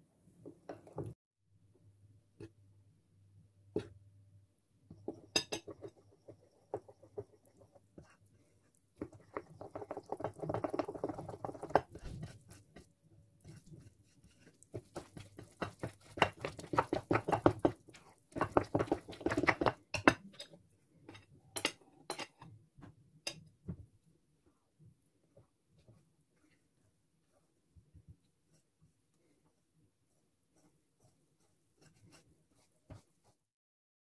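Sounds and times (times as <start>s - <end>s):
spatula stirring batter in bowl: 3.7s - 4.0s, 4.8s - 33.5s.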